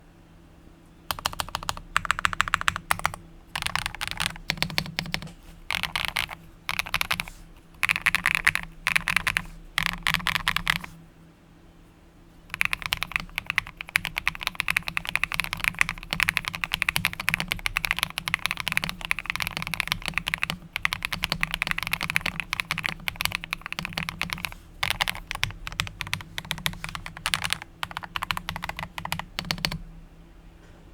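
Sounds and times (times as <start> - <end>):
mechanical keyboard typing: 1.1 - 11.0, 12.5 - 29.8.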